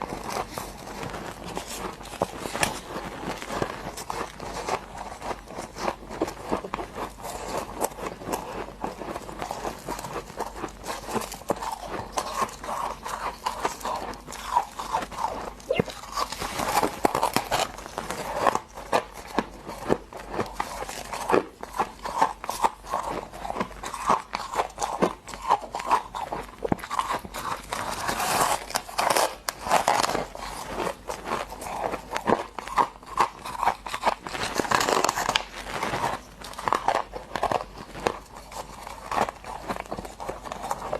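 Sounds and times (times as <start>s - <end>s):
person crunching frost: 0.0s - 40.9s.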